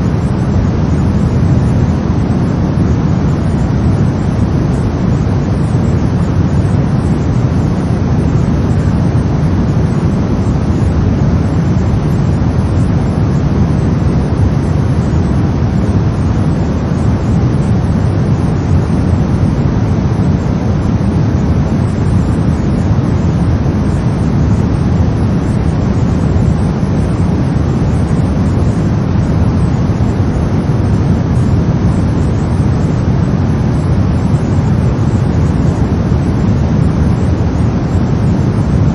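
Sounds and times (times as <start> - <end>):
brown noise: 0.0 - 38.9.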